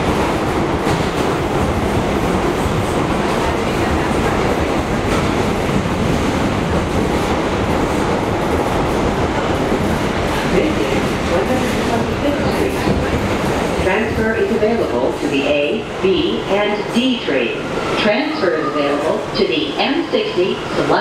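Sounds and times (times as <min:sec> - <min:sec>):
rumble of wheels on rail: 0:00.0 - 0:21.0.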